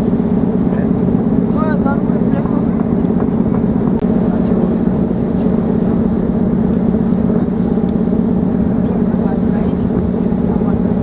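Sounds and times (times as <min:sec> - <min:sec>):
constant rushing noise: 0:00.0 - 0:11.0
ferry engine drone: 0:00.0 - 0:11.0.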